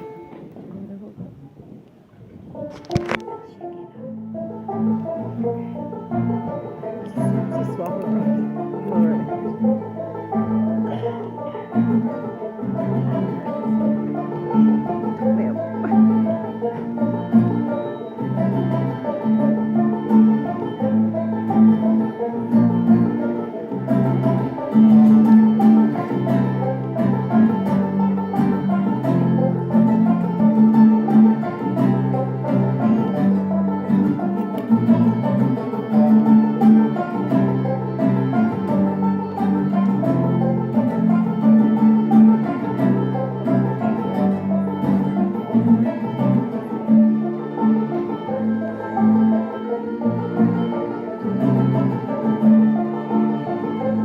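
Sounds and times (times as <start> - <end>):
banjo picking: 0.0 - 54.0
mandolin picking: 0.0 - 54.0
bass line: 2.5 - 54.0.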